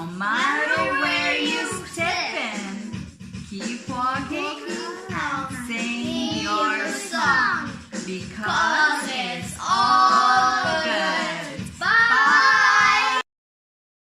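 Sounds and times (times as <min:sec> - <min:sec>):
child and woman singing: 0:00.0 - 0:03.0, 0:03.6 - 0:13.2.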